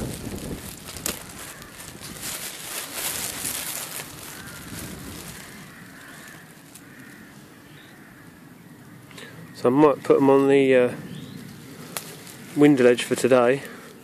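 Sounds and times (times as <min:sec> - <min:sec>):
leaves and stems rustling: 0:00.0 - 0:14.0.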